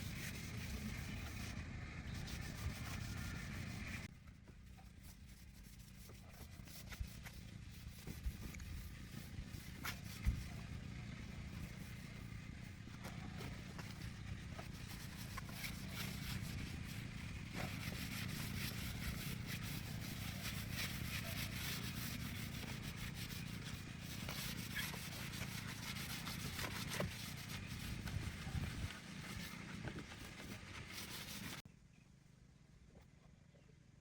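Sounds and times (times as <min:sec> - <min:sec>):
scraping and rubbing: 0:00.0 - 0:31.6
steady low hum: 0:00.0 - 0:34.0.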